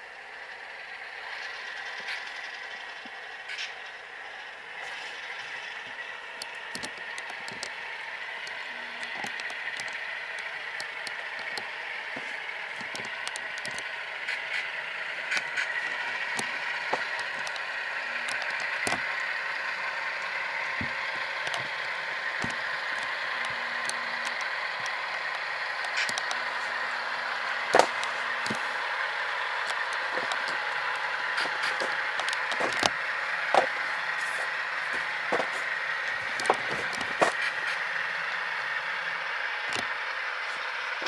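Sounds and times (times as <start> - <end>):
tinny diesel locomotive sounds: 0.0 - 41.0
model wheels clicking on track: 0.1 - 41.0.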